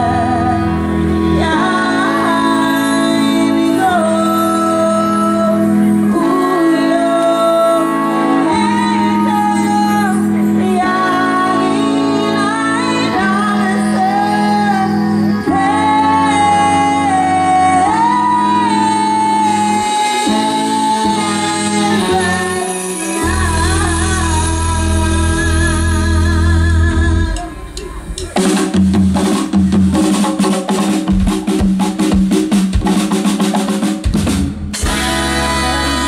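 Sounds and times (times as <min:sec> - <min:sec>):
woman singing: 0:00.0 - 0:27.9, 0:34.8 - 0:36.0
live afrobeat band: 0:00.0 - 0:36.0.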